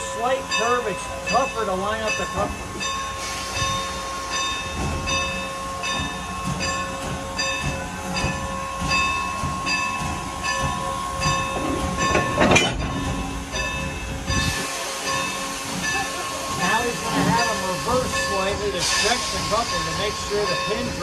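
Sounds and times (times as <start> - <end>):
locomotive bell ringing: 0.0 - 21.0
steam engine hum and rumble: 0.0 - 21.0.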